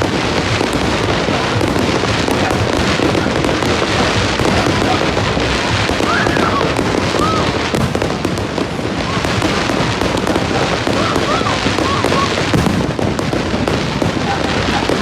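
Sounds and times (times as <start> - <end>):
crowd voices calling out: 0.0 - 15.0
fireworks banging and crackling: 0.0 - 15.0.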